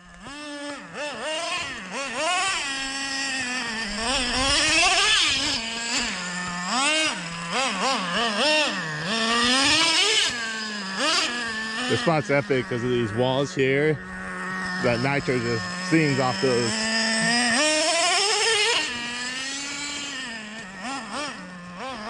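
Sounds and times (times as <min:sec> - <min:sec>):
small nitro engine revving: 0:00.0 - 0:22.0.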